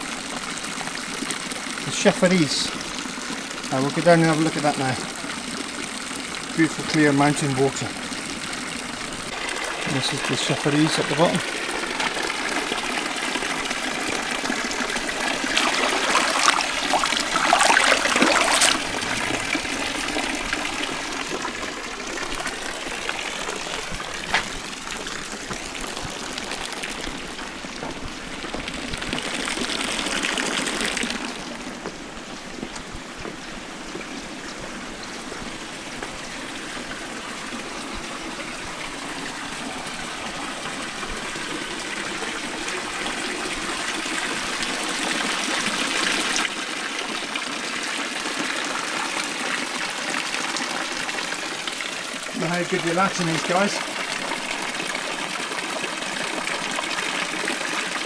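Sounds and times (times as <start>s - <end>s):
fountain water splashing into basin: 0.0s - 58.0s.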